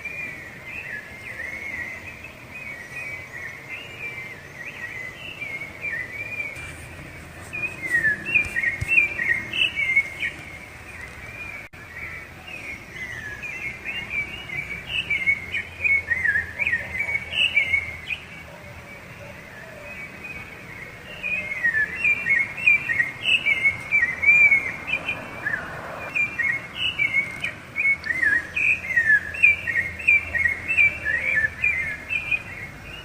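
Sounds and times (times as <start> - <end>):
thrush singing: 0.0 - 33.0.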